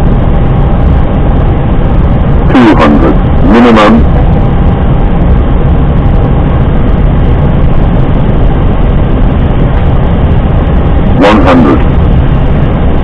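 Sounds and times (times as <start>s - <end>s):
aircraft engine rumble: 0.0s - 13.0s
cockpit airflow rushing: 0.0s - 13.0s.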